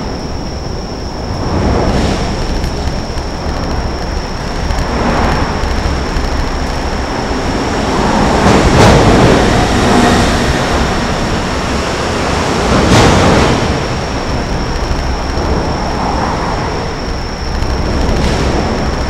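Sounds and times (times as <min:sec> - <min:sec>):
faint high whine: 0:00.0 - 0:19.0
traffic rumble: 0:00.0 - 0:19.0.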